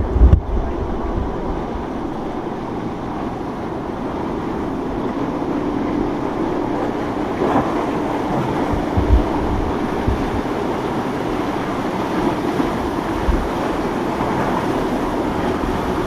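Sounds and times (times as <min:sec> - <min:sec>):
boat engine running: 0:00.0 - 0:16.0
surf: 0:00.0 - 0:16.0
wind on microphone: 0:00.0 - 0:16.0.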